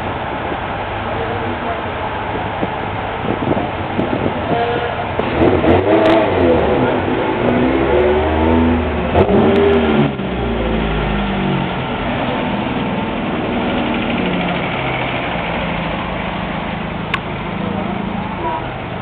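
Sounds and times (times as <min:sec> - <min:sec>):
classic car engine rolling by: 0:00.0 - 0:19.0
car engine revving: 0:03.2 - 0:19.0.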